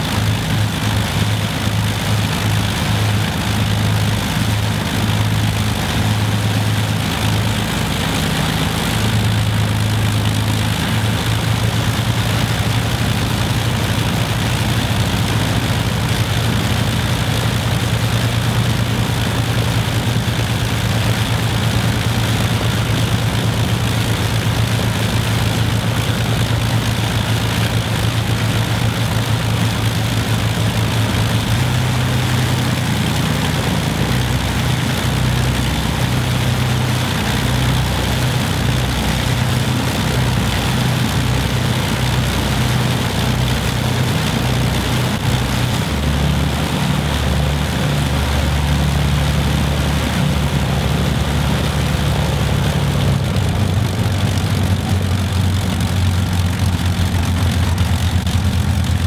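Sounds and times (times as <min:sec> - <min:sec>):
aircraft engines droning: 0:00.0 - 0:59.0.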